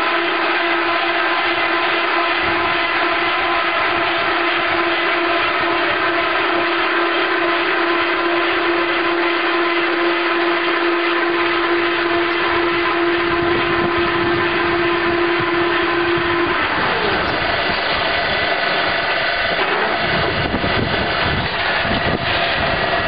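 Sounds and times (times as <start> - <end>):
constant machine whine: 0.0 - 23.0
loud machine noise: 0.0 - 23.0.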